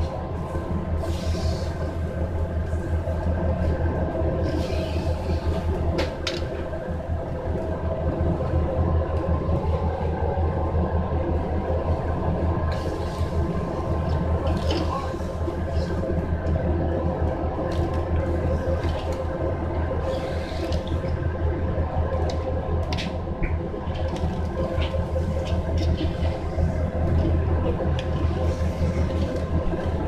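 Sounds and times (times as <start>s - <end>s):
ventilation rumble and hum: 0.0s - 30.0s.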